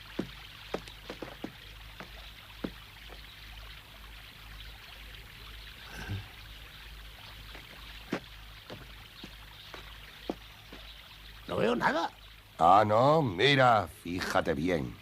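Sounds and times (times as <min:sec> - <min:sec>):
stream running: 0:00.0 - 0:15.0.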